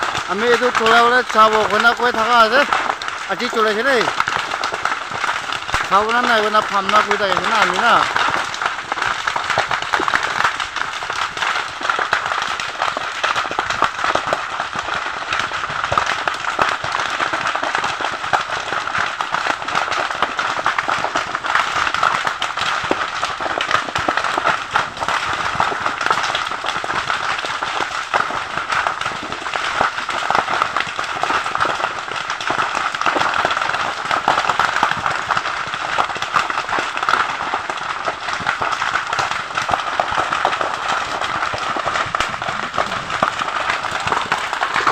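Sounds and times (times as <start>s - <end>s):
brush fire crackling: 0.0s - 44.9s.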